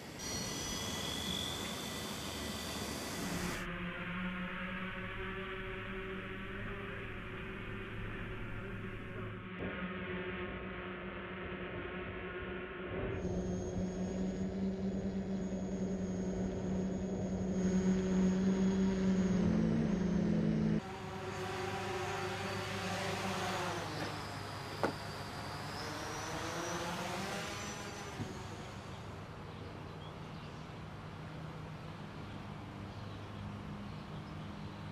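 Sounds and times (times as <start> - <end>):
drone propellers humming: 0.0 - 32.9.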